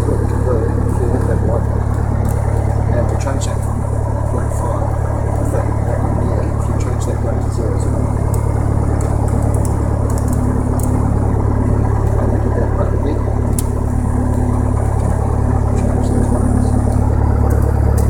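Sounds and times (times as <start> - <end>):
light aircraft engine running: 0.0 - 18.0.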